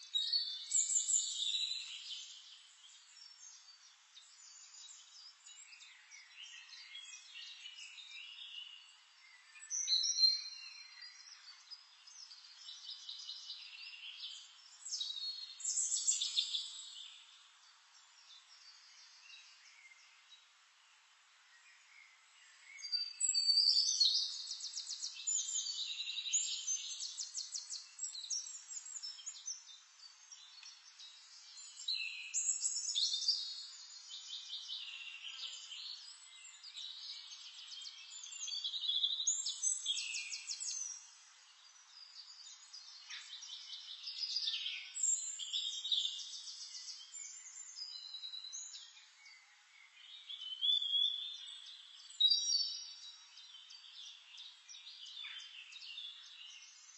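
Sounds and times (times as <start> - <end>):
songbirds singing: 0.0 - 56.9.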